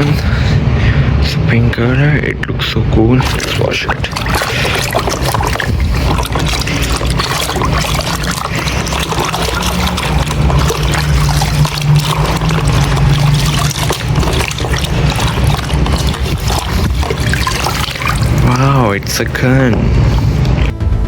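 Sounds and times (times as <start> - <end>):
water pouring and trickling: 3.2 - 20.7.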